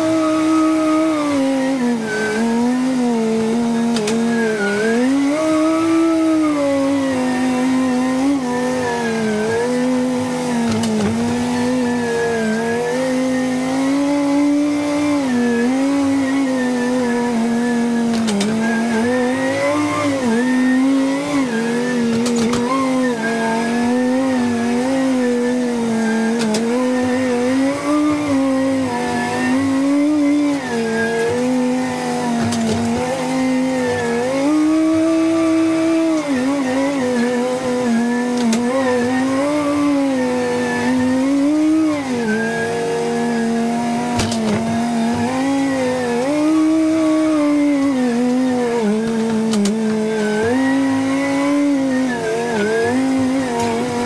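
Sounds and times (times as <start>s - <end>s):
machine engine whining under load: 0.0s - 54.0s.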